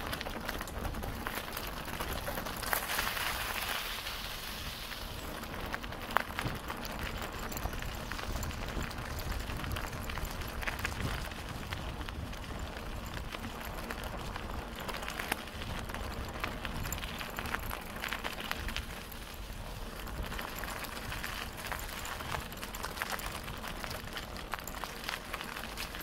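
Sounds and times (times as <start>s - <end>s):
bicycle tyres crunching on gravel: 0.0s - 26.0s.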